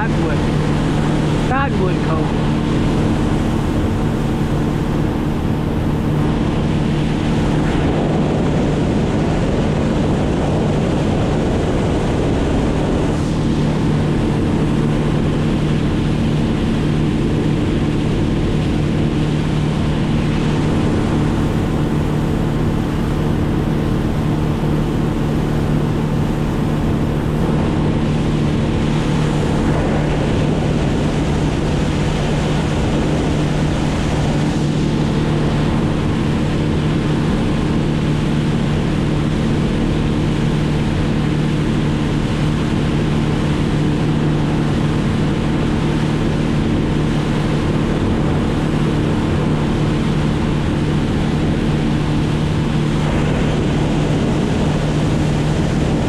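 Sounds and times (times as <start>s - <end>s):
boat motor running: 0.0s - 56.0s
water rushing: 0.0s - 56.0s
wind on microphone: 0.0s - 56.0s.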